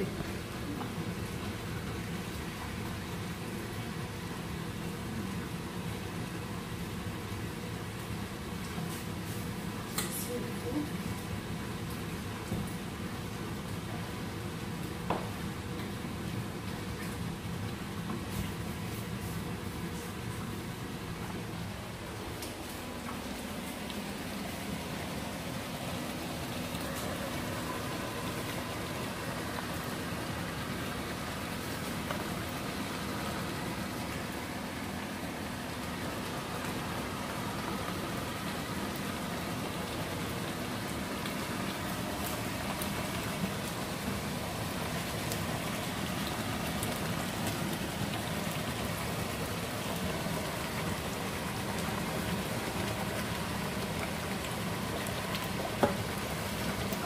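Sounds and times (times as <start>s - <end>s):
stew sizzling and bubbling: 0.0s - 57.0s.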